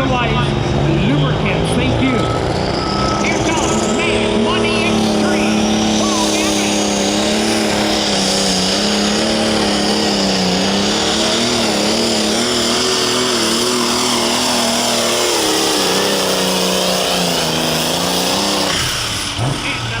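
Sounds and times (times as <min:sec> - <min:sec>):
high turbo whine: 0:00.0 - 0:20.0
tractor engine running under load: 0:00.0 - 0:20.0.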